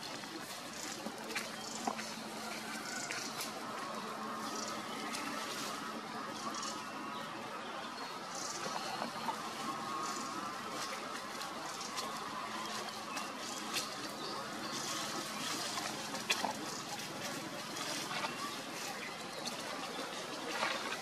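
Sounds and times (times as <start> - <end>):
dry leaves crackling: 0.0 - 7.5, 8.2 - 21.0
outdoor background noise: 0.0 - 21.0.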